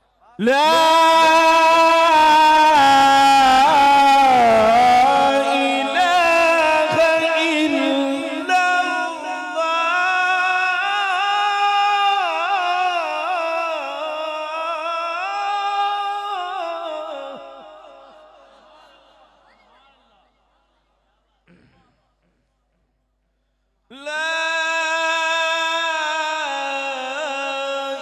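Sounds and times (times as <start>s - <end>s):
solo voice chanting: 0.0s - 23.0s, 23.9s - 28.0s.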